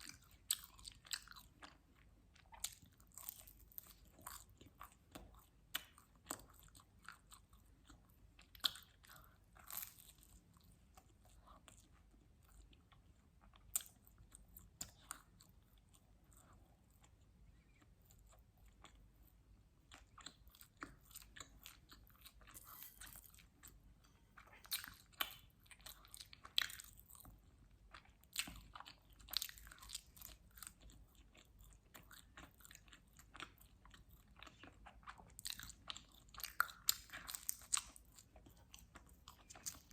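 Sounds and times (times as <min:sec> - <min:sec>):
person chewing pizza: 0:00.0 - 0:39.9.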